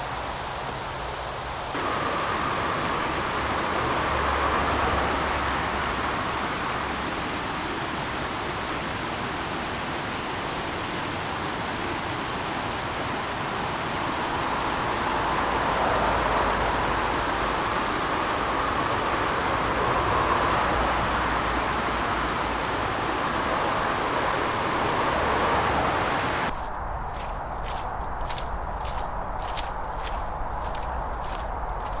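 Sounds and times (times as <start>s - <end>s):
stream rushing over rocks: 0.0s - 26.5s.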